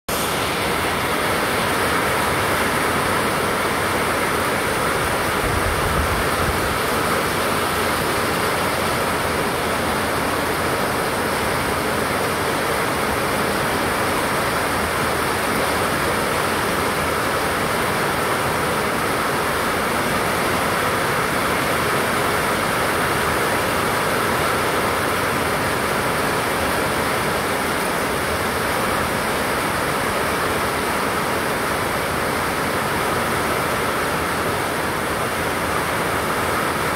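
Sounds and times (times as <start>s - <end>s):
heavy rain hiss: 0.1s - 36.9s.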